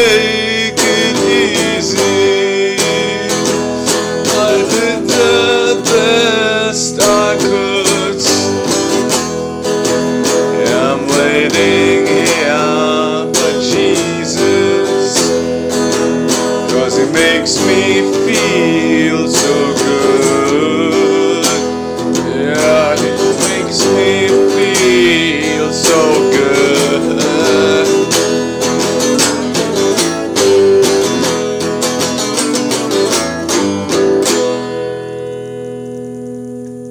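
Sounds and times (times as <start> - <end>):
man singing: 0.0 - 31.6
strummed acoustic guitar: 0.0 - 36.9.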